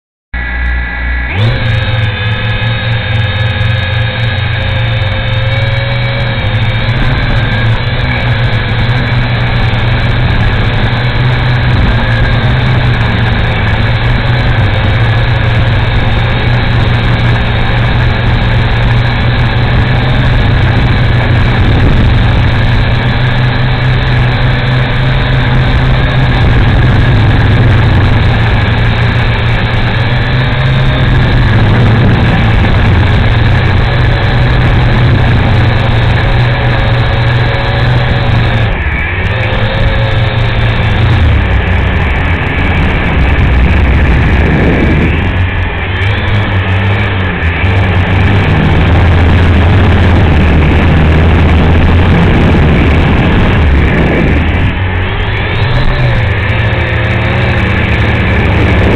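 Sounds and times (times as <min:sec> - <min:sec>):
drone propellers whining: 0:00.4 - 0:58.9
low hum: 0:00.4 - 0:58.9.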